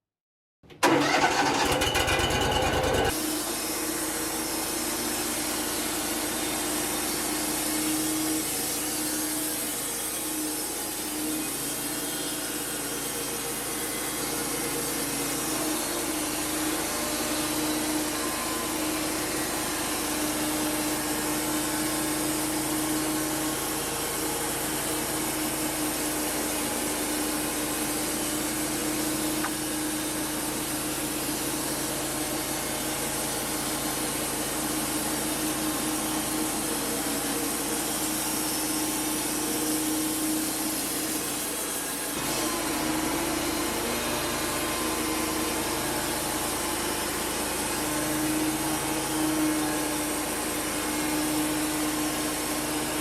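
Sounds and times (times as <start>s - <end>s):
sawmill engine under load: 0.7s - 53.0s.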